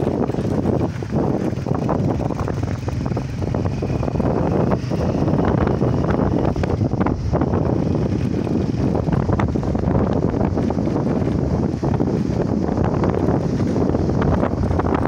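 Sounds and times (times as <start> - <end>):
low steady vehicle drone: 0.0 - 15.0
wind buffeting microphone: 0.0 - 15.0.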